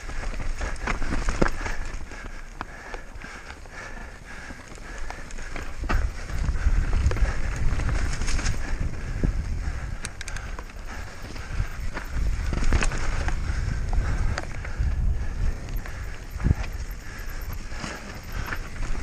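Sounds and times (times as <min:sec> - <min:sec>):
bike tyres and frame rattling: 0:00.0 - 0:19.0
wind buffeting microphone: 0:03.3 - 0:19.0.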